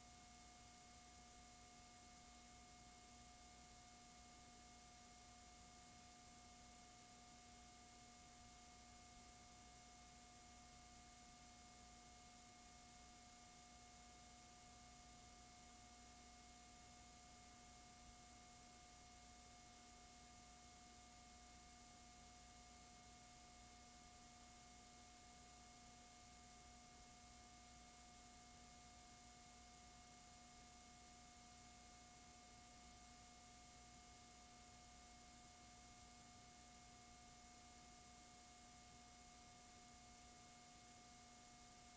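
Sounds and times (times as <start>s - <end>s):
faint steady hiss and hum: 0.0s - 41.9s.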